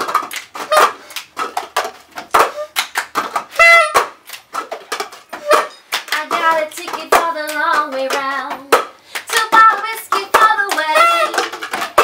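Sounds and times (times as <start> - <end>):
hands clapping: 0.0 - 12.0
plastic cups knocking on table: 0.0 - 12.0.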